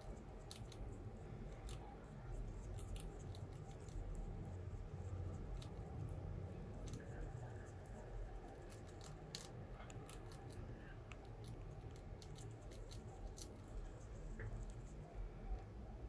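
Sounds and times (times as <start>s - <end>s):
rat nibbling crunchy snack: 0.0s - 15.7s
low steady rumble: 0.0s - 16.0s.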